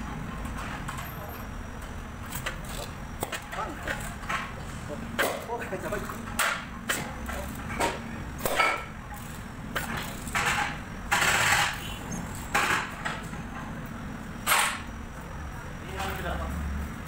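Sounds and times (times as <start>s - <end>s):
low shop hum: 0.0s - 17.0s.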